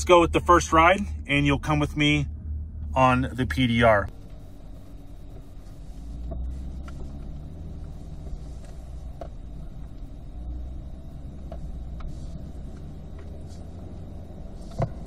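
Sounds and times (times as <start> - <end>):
car engine low rumble: 0.0 - 15.0
road noise: 0.0 - 15.0.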